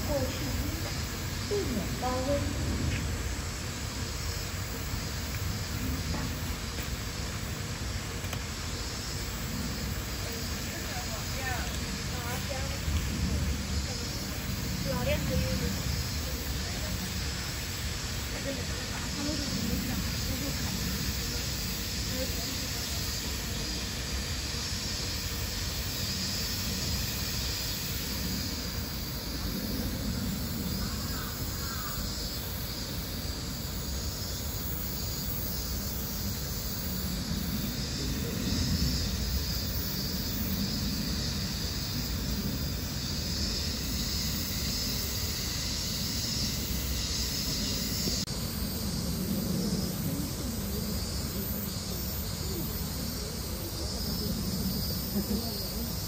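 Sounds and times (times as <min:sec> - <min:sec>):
high hiss: 0:00.0 - 0:56.0.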